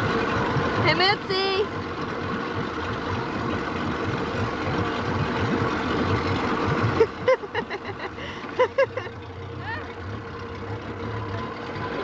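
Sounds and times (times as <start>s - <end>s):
motorboat engine running: 0.0s - 12.0s
rushing water: 0.0s - 12.0s.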